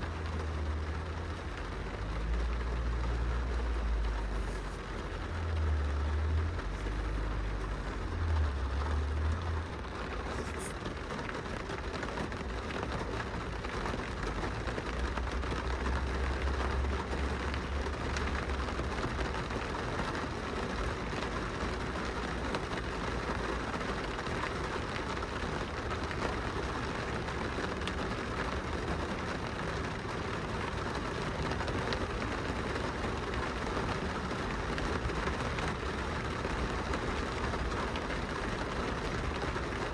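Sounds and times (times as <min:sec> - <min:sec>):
rain pattering on glass window: 0:00.0 - 0:39.9.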